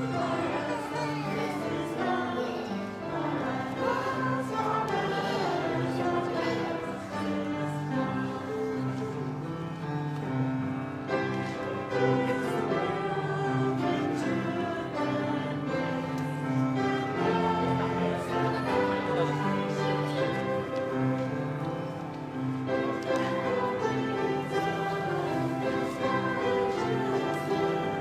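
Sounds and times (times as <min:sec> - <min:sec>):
young children singing: 0:00.0 - 0:09.8, 0:11.2 - 0:28.0.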